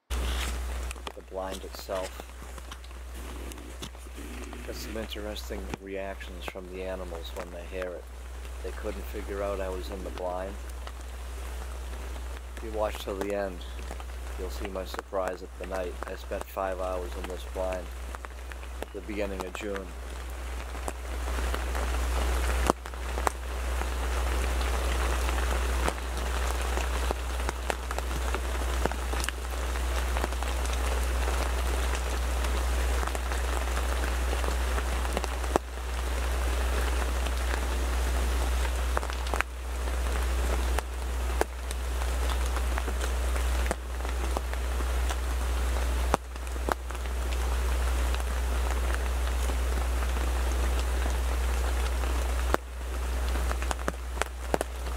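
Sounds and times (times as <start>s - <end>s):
rain drumming on fabric: 0.0s - 54.9s
steady low rumble: 0.0s - 54.9s
large raindrop taps: 0.1s - 54.9s.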